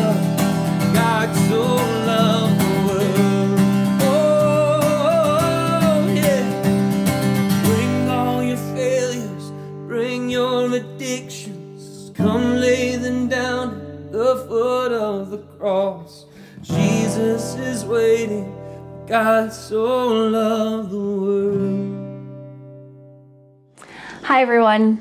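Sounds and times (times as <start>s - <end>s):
man singing: 0.0s - 22.4s
strummed acoustic guitar: 0.0s - 23.8s.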